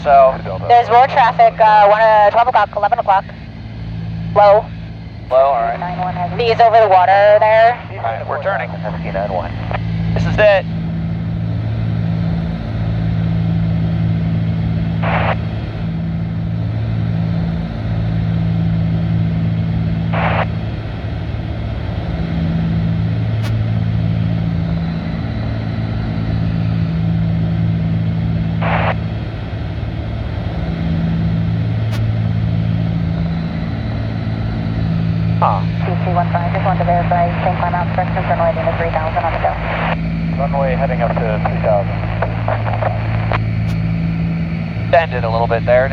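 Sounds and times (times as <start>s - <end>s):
airplane engines droning: 0.0s - 45.9s.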